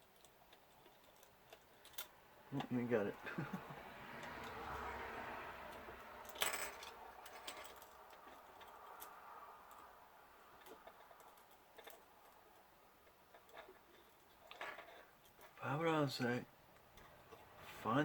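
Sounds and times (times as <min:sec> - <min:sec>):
small parts and tools clicking: 0:00.0 - 0:15.6, 0:16.7 - 0:17.6.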